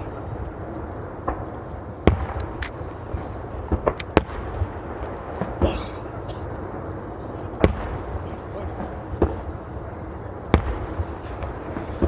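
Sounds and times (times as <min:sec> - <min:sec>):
fireworks bangs: 0:00.0 - 0:09.7, 0:10.3 - 0:12.0.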